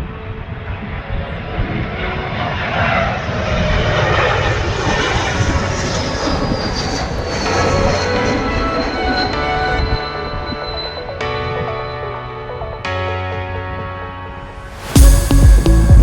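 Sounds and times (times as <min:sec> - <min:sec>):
high whine falling in pitch: 0:00.0 - 0:12.8
airliner engines roaring: 0:00.0 - 0:15.0.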